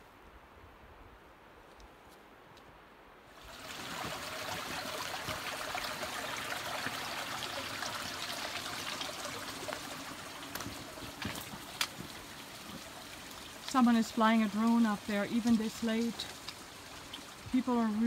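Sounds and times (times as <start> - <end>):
creek trickling over rocks: 3.3 - 18.0.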